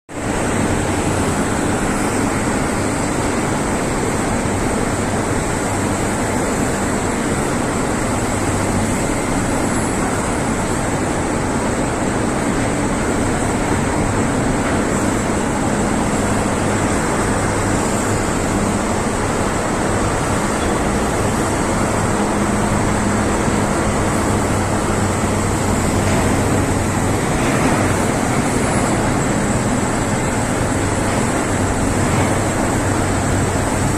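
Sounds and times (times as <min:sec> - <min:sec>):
industrial roar: 0:00.1 - 0:33.9
diesel engine running: 0:00.2 - 0:33.9.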